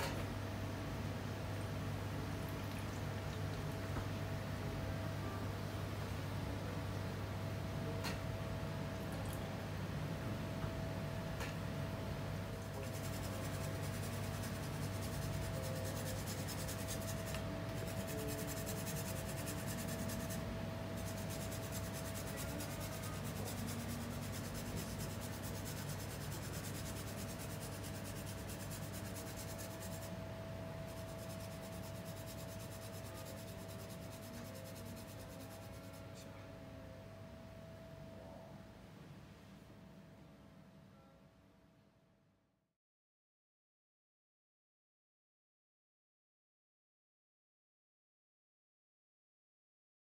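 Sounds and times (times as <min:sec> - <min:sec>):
faint whine: 0:00.0 - 0:42.4.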